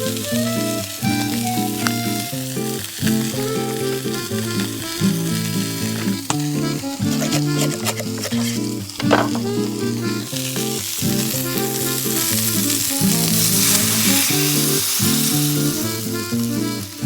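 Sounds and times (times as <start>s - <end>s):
background music of held notes: 0.0s - 17.0s
meat sizzling in a pan: 0.0s - 17.0s.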